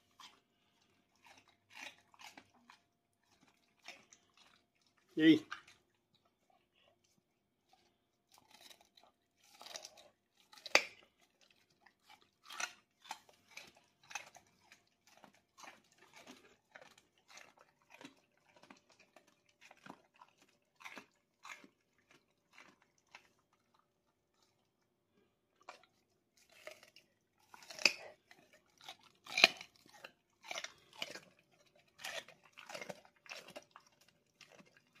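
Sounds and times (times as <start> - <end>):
dog crunching a carrot: 0.0 - 35.0.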